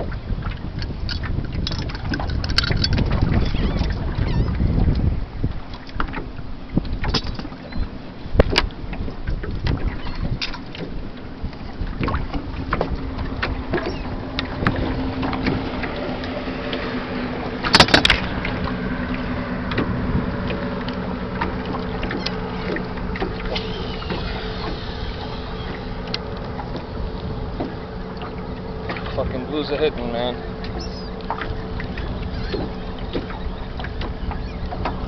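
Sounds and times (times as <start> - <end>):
low engine hum: 0.0 - 35.0
water lapping against boat hull: 0.0 - 35.0.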